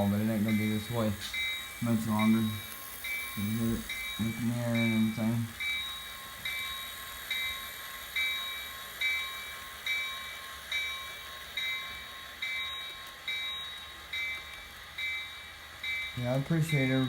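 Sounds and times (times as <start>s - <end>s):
locomotive bell ringing: 0.0s - 17.0s.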